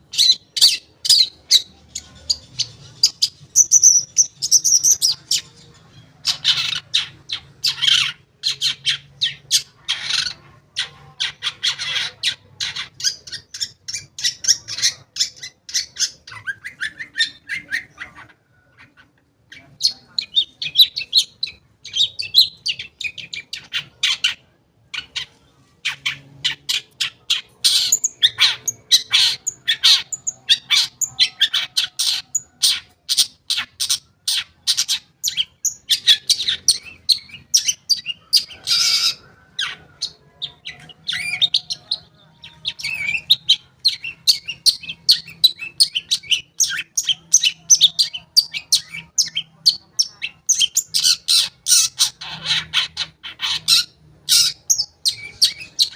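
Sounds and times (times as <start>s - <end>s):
bird singing chattering song: 0.0s - 55.9s.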